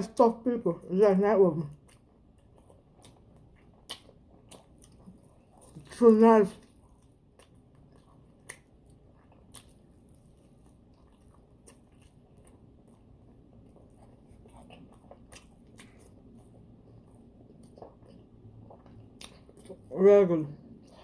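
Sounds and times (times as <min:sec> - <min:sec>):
chewing and biting food: 0:01.6 - 0:19.9.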